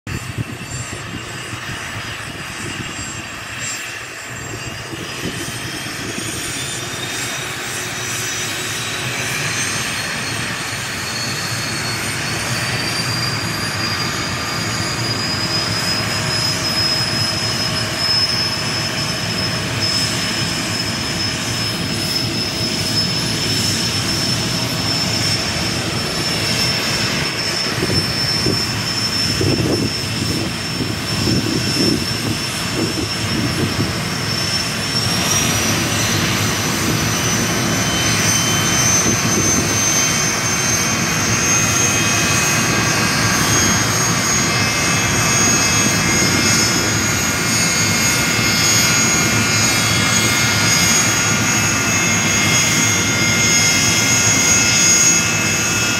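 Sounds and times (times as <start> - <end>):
jet engine turbine whine: 0.1 - 55.9.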